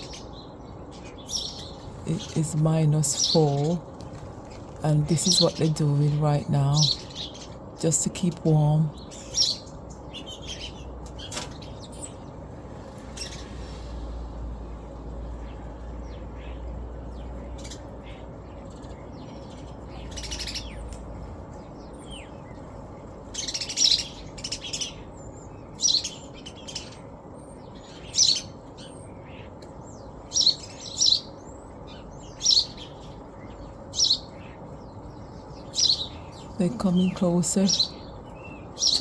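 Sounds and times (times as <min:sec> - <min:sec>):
small birds chirping: 0:00.0 - 0:39.0
steady low background noise: 0:00.0 - 0:39.0.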